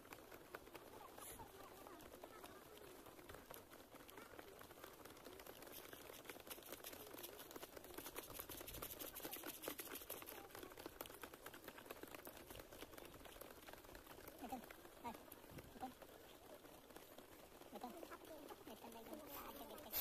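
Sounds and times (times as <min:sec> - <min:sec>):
running feet on dirt track: 0:00.0 - 0:20.0.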